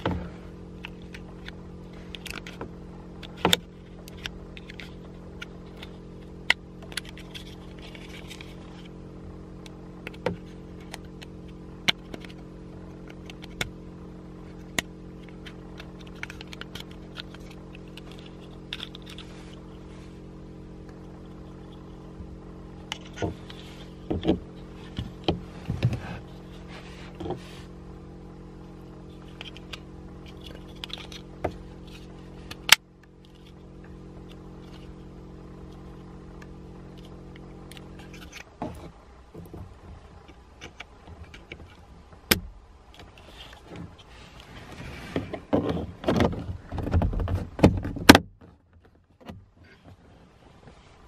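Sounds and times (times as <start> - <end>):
steady hum: 0.0 - 48.4.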